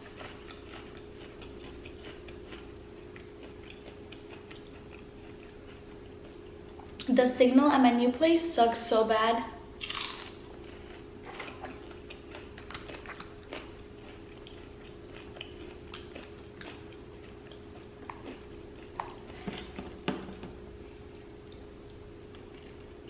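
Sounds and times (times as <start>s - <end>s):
quiet chewing: 0.0s - 7.1s, 9.8s - 20.1s, 21.0s - 23.0s
faint steady hum: 0.0s - 23.0s.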